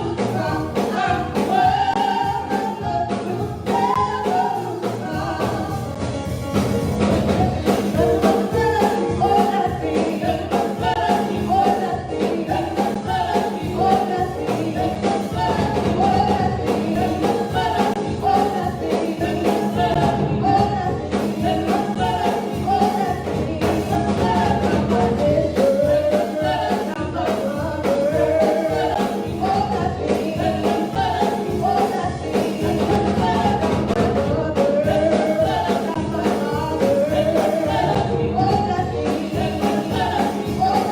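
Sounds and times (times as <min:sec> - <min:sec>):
band with steady drum beat: 0:00.0 - 0:40.9
voices singing gospel: 0:00.0 - 0:40.9.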